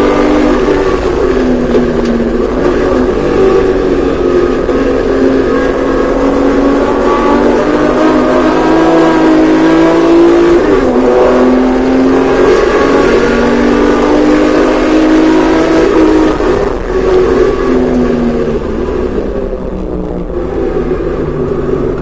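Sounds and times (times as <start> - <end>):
car engine at full throttle: 0.0 - 22.0.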